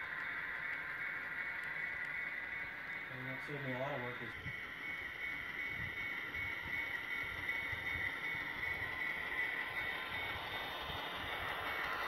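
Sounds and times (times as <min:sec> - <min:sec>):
model trains whirring: 0:00.0 - 0:12.0.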